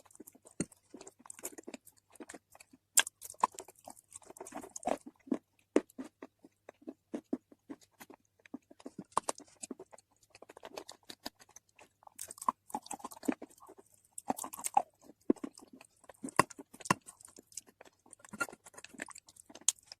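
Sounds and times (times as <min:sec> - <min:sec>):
crunchy biting and chewing: 0:00.0 - 0:20.0
mouth chewing sounds: 0:00.0 - 0:20.0.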